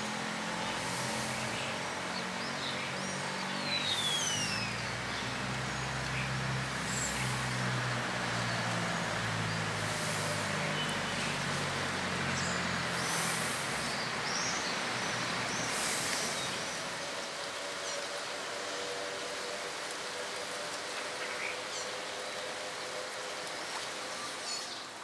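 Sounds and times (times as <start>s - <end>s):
vehicle engine low hum: 0.0s - 24.2s
outdoor noise: 0.0s - 25.0s.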